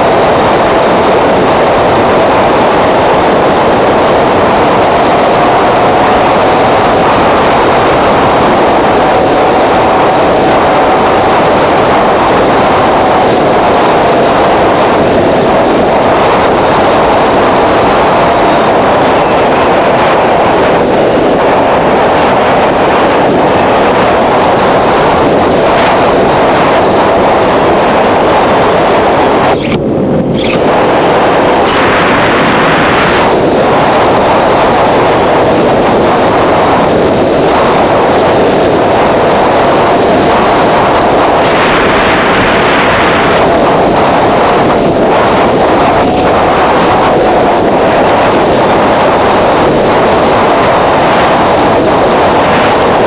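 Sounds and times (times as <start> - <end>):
wind noise rushing: 0.0 - 53.0.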